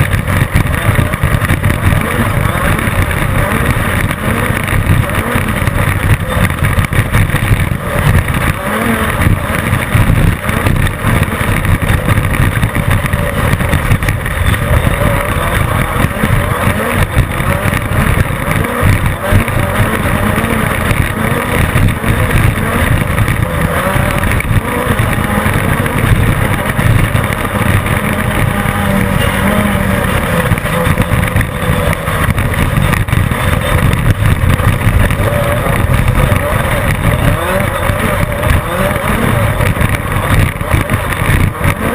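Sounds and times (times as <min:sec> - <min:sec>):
chassis jolts and rattles: 0:00.0 - 0:41.9
race car engine din: 0:00.0 - 0:41.9.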